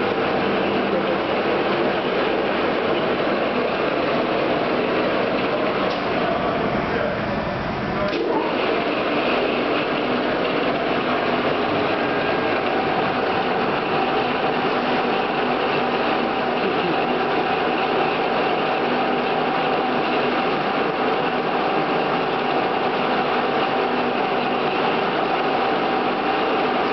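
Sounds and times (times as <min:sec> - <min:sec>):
lathe running: 0:00.0 - 0:26.9.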